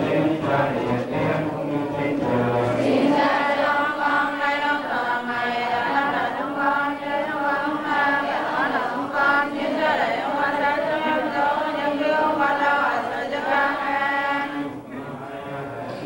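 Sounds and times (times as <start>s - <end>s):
choir singing slow chant: 0.0s - 16.0s.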